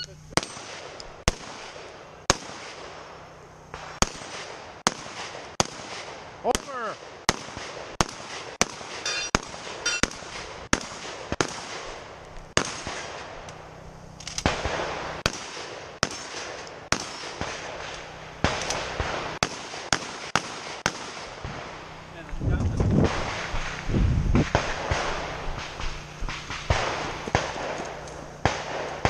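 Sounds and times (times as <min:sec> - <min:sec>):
rapid gunfire: 0:00.3 - 0:03.1, 0:03.7 - 0:13.4, 0:14.4 - 0:29.0
shotgun shot: 0:00.3 - 0:03.1, 0:03.7 - 0:13.4, 0:14.3 - 0:29.0.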